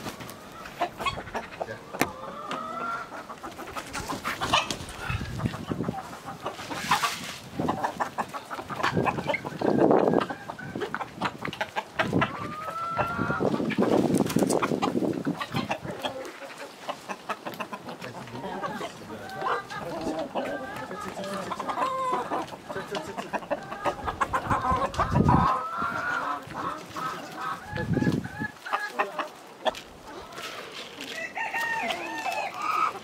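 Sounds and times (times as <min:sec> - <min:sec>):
chickens clucking: 0:00.0 - 0:33.0
loud long chicken calls: 0:00.0 - 0:33.0.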